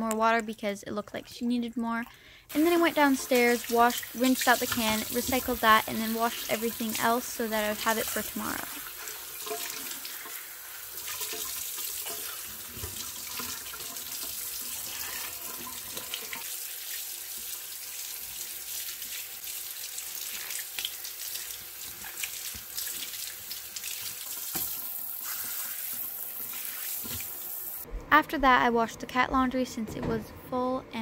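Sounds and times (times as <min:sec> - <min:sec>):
faucet water splashing into can: 0:02.5 - 0:27.8.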